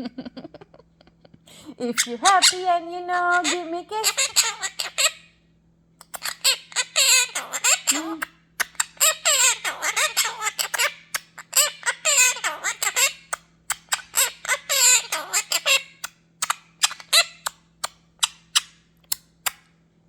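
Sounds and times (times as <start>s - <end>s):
parrot chattering and squawking: 1.6s - 5.4s, 6.0s - 19.7s.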